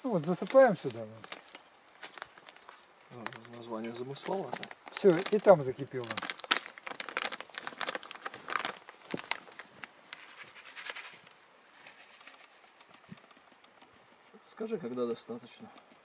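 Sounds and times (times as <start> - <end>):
foil packet crinkling and rustling: 0.0 - 16.0.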